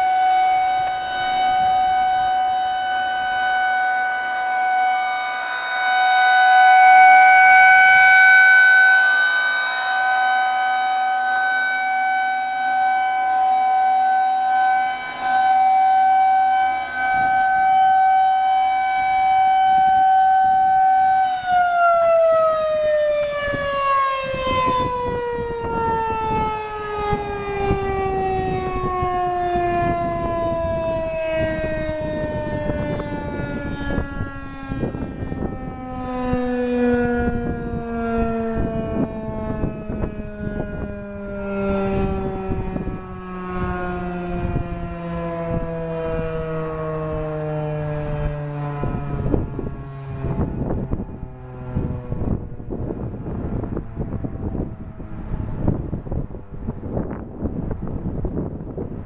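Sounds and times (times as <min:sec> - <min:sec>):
outdoor warning siren steady tone: 0:00.0 - 0:59.0
siren winding down: 0:00.0 - 0:59.0.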